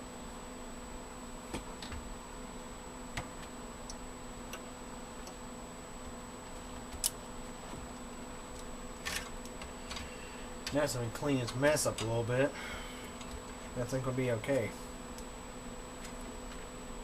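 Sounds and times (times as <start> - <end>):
faint hum with high whine: 0.0 - 17.0.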